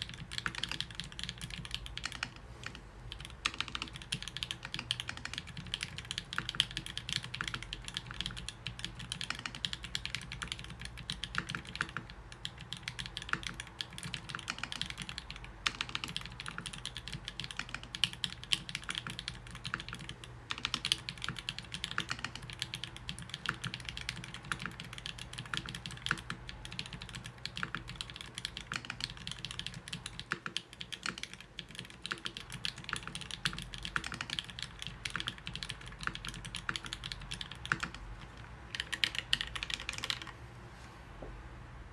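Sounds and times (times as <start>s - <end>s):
mechanical keyboard typing: 0.0s - 40.4s.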